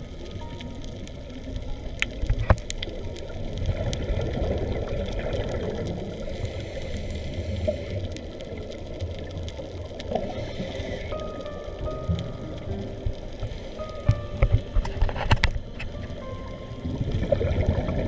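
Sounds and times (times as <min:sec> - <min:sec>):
underwater bubbling: 0:00.0 - 0:18.0.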